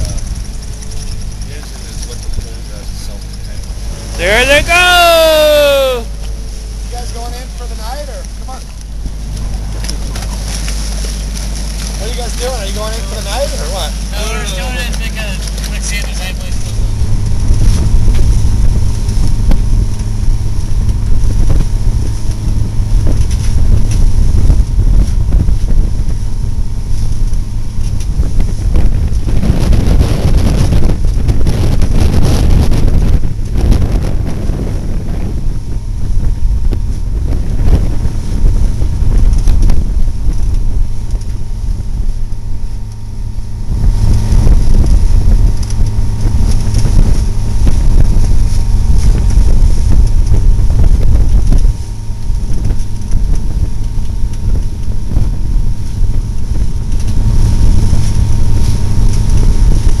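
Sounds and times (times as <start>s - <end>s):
boat engine running: 0.0s - 60.0s
constant low hum: 0.0s - 60.0s
wind buffeting microphone: 0.0s - 60.0s.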